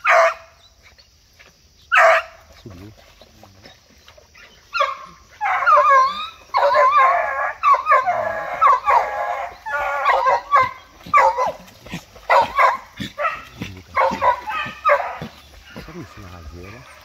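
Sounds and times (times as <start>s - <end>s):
hunting dogs baying and yelping: 0.0s - 17.0s.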